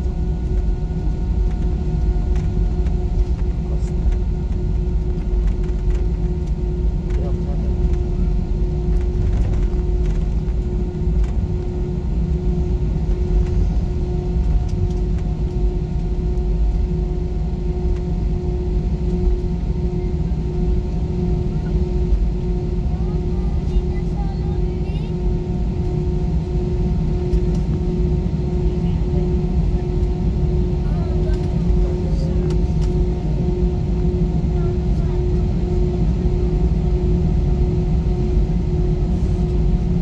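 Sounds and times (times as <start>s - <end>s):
aircraft cabin engine rumble: 0.0s - 40.0s.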